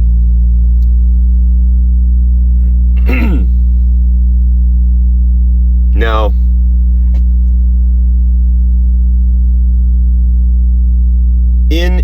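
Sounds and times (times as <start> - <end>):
low ambient drone: 0.0 - 12.0.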